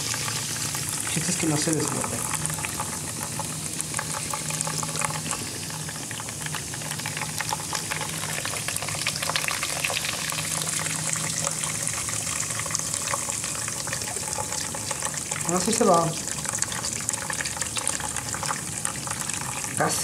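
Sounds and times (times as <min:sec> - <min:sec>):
crackling fizz: 0:00.0 - 0:20.0
liquid pouring into tray: 0:00.0 - 0:20.0.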